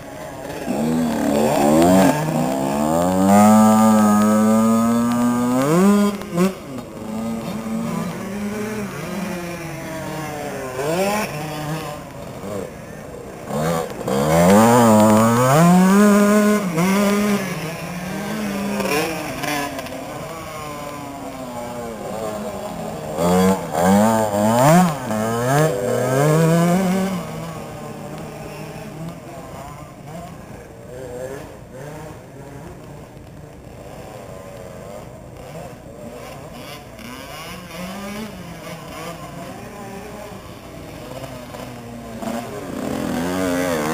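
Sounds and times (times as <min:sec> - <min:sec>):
motocross bikes revving: 0:00.0 - 0:43.9.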